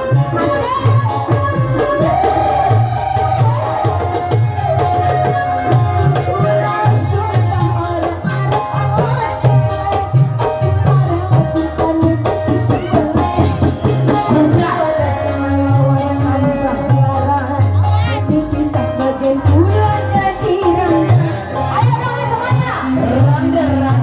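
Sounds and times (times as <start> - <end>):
drum and bass music: 0.0 - 24.0.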